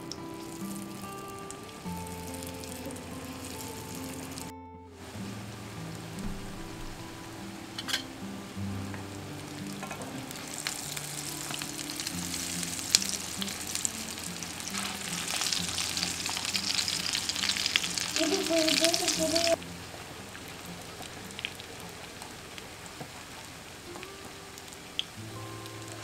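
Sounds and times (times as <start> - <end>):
cutlets sizzling in oil: 0.0 - 4.5, 5.9 - 26.0
soft background music: 0.0 - 26.0.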